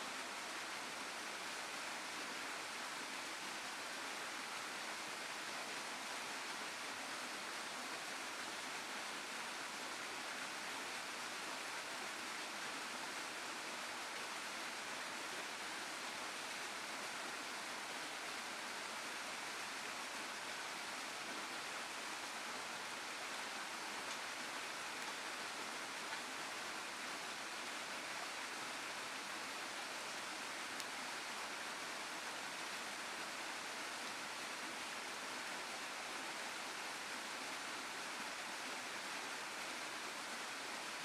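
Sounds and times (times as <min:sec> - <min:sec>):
waterfall and stream rushing: 0:00.0 - 0:41.0.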